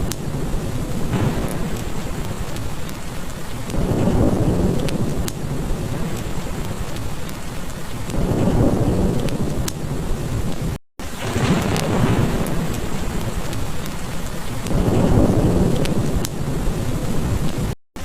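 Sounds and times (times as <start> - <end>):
rolling thunder: 0.0 - 17.8
wood fire crackling: 0.0 - 17.8
heavy rain: 0.0 - 18.0.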